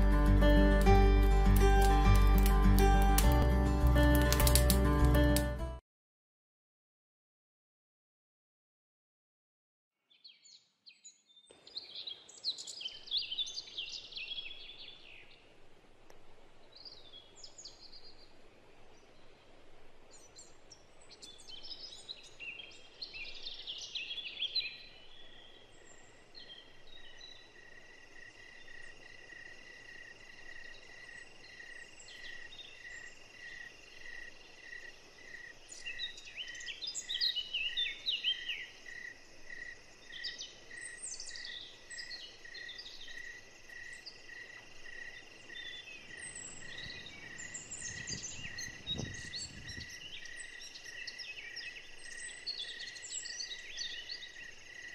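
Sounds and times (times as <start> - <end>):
songbirds chirping: 10.0 - 54.9.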